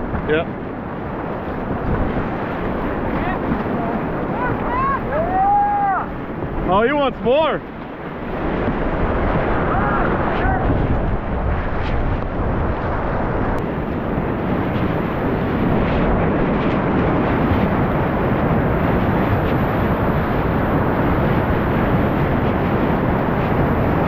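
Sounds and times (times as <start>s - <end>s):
whitewater rapid roaring: 0.0s - 24.0s.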